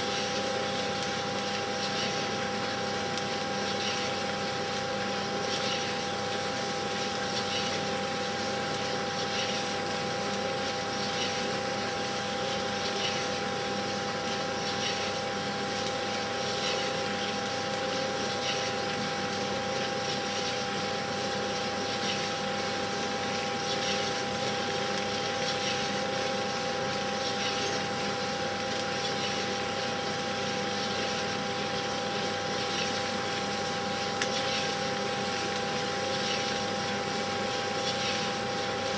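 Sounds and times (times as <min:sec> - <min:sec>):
steady hum and hiss: 0:00.0 - 0:38.9.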